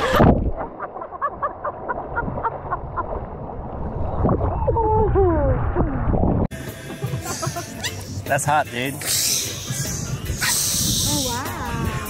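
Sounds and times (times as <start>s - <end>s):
muffled water and waves rumbling: 0.0s - 12.0s.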